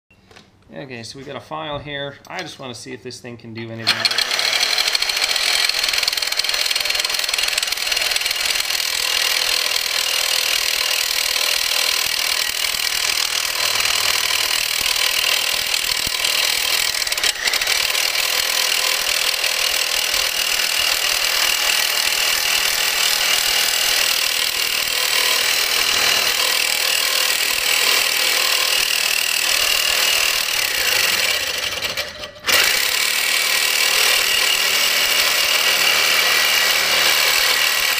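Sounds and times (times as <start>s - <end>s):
reciprocating saw cutting steel: 3.8s - 37.9s.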